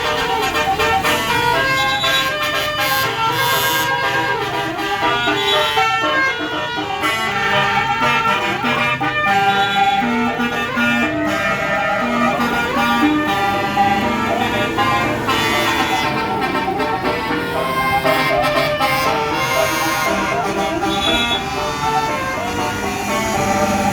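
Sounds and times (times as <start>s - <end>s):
bus running noise: 0.0s - 23.9s
multi-note bus horn tune: 0.0s - 23.9s.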